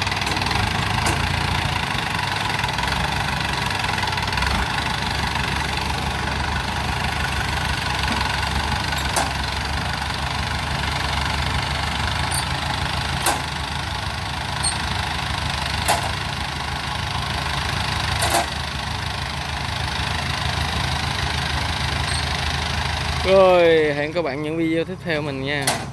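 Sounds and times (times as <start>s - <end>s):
engine idling: 0.0s - 25.9s.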